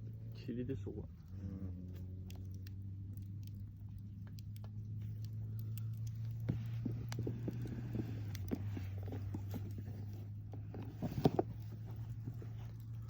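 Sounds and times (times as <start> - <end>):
campfire wood crackling and popping: 0.0 - 13.0
steady low hum: 0.0 - 13.0.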